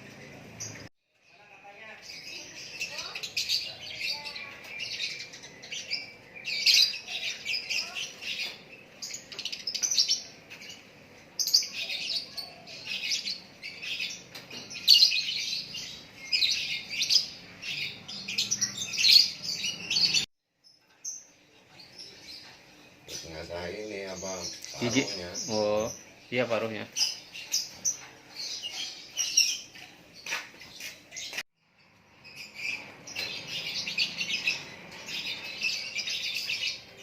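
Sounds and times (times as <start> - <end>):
songbird chirping: 0.0 - 37.0.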